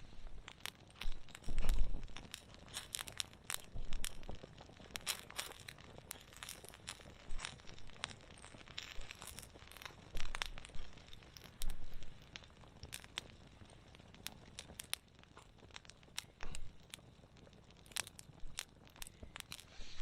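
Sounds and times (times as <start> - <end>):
campfire crackling: 0.0 - 20.0
sharp snaps and pops: 0.0 - 20.0.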